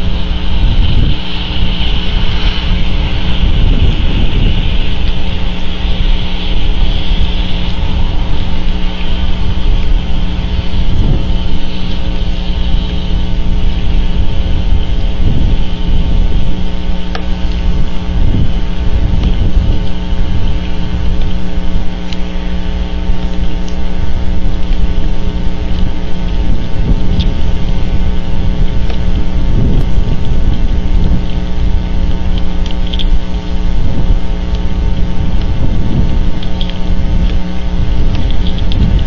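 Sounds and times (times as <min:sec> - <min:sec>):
electrical hum: 0:00.0 - 0:39.0
wind rumble on microphone: 0:00.0 - 0:39.0.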